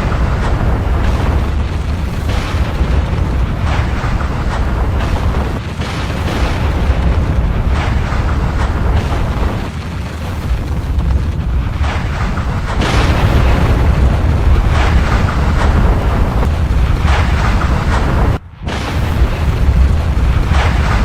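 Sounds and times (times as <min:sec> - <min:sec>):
volcanic eruption rumble: 0:00.0 - 0:21.0.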